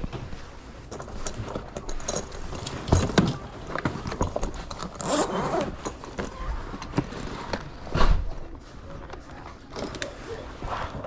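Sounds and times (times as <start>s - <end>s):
scraping rustle: 0.0s - 11.0s.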